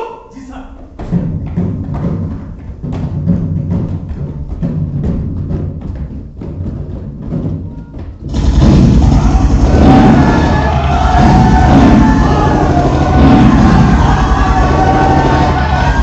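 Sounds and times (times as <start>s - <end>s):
loud full wall of sound: 0.0s - 16.0s
rapid drum beat: 0.8s - 16.0s.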